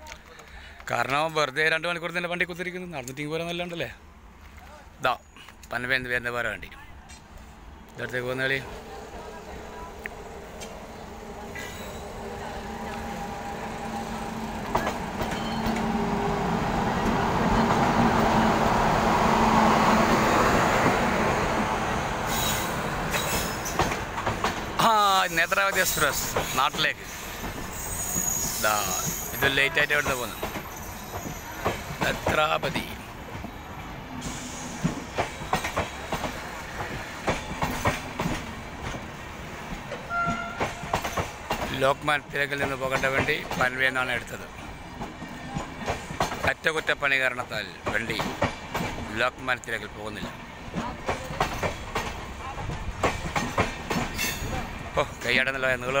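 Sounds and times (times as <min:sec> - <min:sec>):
electric train passing: 0:07.3 - 0:56.0.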